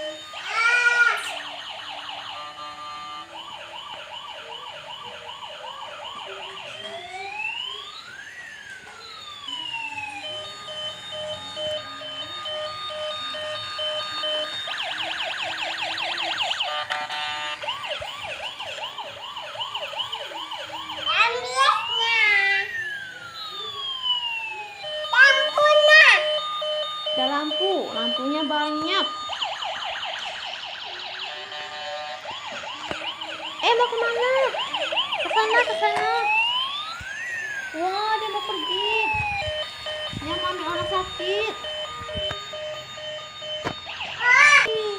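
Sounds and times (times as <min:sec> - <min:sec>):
ambulance siren: 0:00.0 - 0:44.9.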